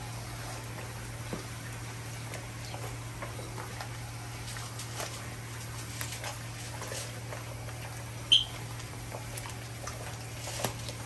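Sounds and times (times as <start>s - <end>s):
pork skin deep-frying in oil: 0.0s - 11.0s.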